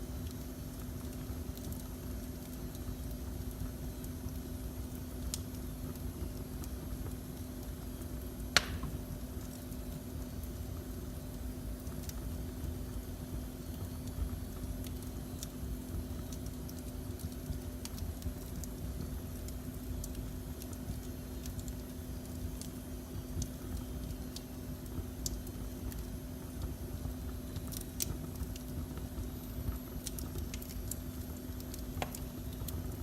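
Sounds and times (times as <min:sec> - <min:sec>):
faint steady hum: 0:00.0 - 0:33.0
fire crackles and pops: 0:00.0 - 0:33.0
wood fire rumbling: 0:00.0 - 0:33.0.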